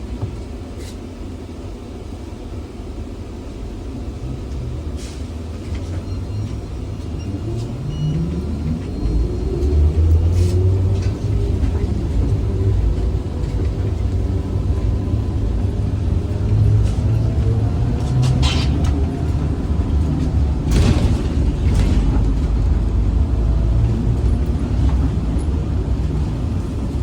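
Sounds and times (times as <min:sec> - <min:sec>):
trolleybus running rumble: 0:00.0 - 0:27.0.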